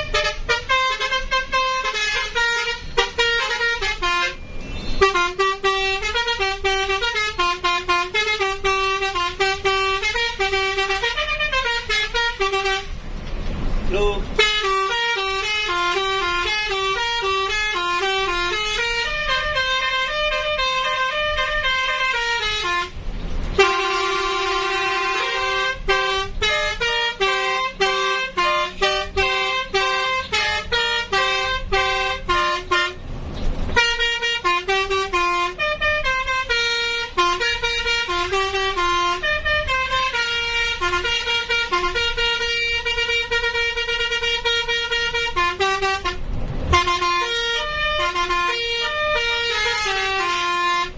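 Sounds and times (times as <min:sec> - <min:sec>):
multi-tone horn playing a tune: 0:00.0 - 0:12.9, 0:14.4 - 0:33.0, 0:33.7 - 0:50.9.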